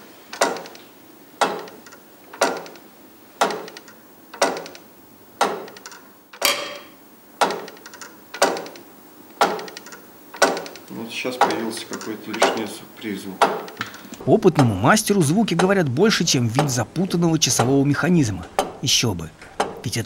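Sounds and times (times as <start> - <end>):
clock mechanism ticking: 0.3 - 20.0.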